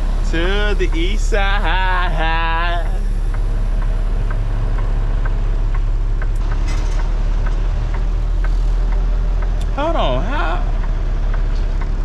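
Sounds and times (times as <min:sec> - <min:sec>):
faint regular ticking: 0:00.0 - 0:06.6, 0:07.4 - 0:12.0
diesel truck engine idling: 0:00.0 - 0:12.0.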